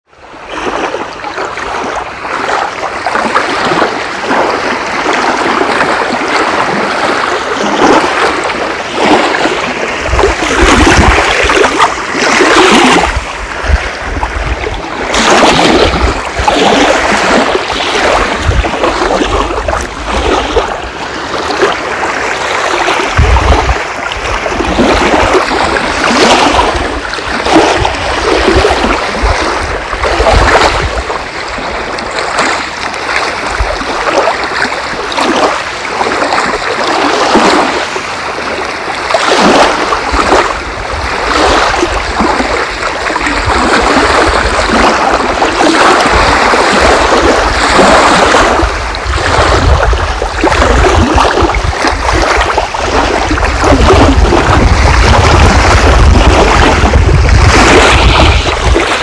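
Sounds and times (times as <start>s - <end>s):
wind rumbling on microphone: 0.0s - 59.0s
lake waves lapping on shore: 0.1s - 59.0s.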